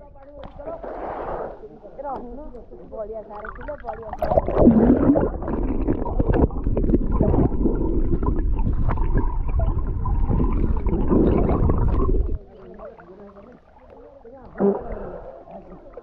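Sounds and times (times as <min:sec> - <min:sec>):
muffled underwater rumble: 0:00.0 - 0:16.0
water bubbling: 0:00.5 - 0:16.0.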